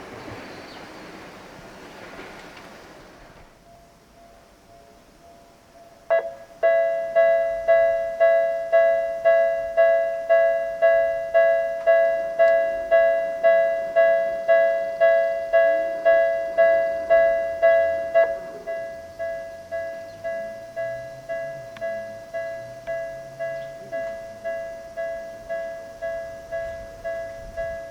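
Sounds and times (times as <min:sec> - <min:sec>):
level crossing warning bell: 0:03.1 - 0:27.9.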